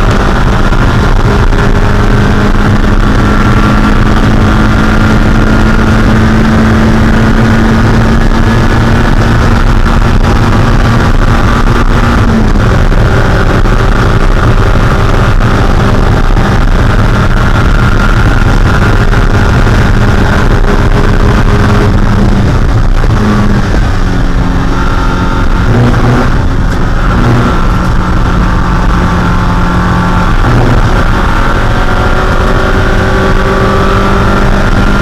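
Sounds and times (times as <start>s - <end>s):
race car engine at high revs: 0.0s - 35.0s
wind and road noise: 0.0s - 35.0s.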